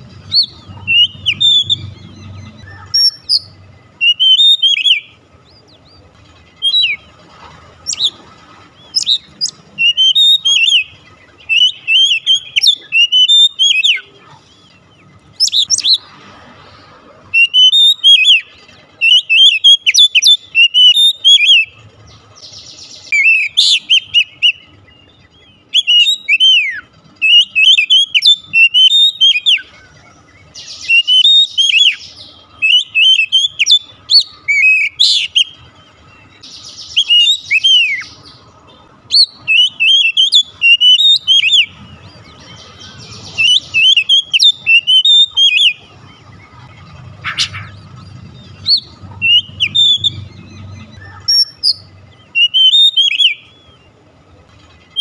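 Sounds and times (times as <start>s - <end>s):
bird singing whistled phrases: 0.2s - 6.0s, 6.6s - 7.1s, 7.8s - 8.2s, 8.8s - 14.1s, 15.4s - 16.0s, 17.3s - 21.8s, 22.4s - 38.4s, 39.1s - 47.8s, 48.4s - 53.9s.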